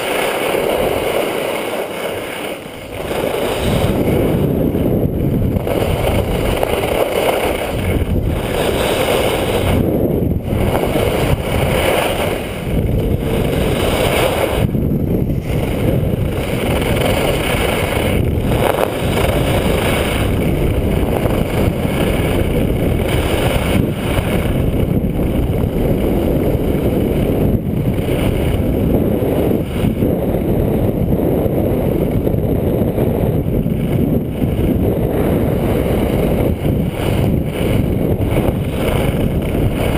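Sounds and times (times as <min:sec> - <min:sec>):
skis scraping on snow: 0:00.0 - 0:39.9
wind rushing over microphone: 0:00.0 - 0:39.9.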